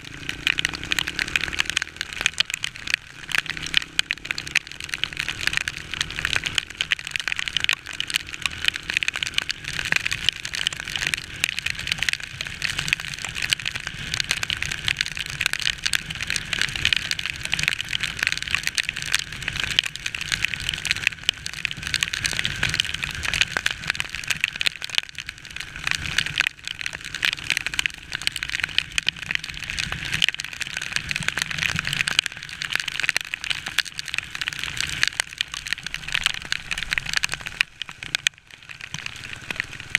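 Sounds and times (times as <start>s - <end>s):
heavy rain on microphone: 0.0s - 39.9s
motorcycle rumble on wet road: 0.0s - 39.9s.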